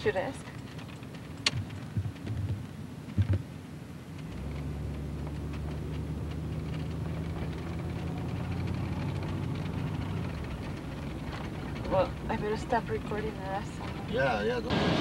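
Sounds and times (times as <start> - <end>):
car engine drone inside cabin: 0.0 - 15.0.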